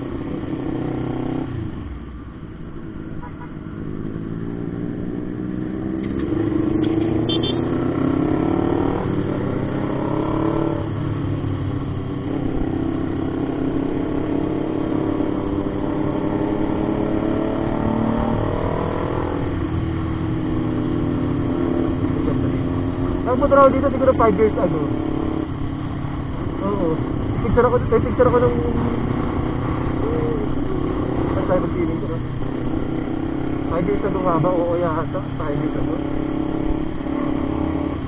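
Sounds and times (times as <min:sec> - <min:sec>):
low wind rumble: 0:00.0 - 0:38.0
motorcycle engine accelerating: 0:00.0 - 0:38.0.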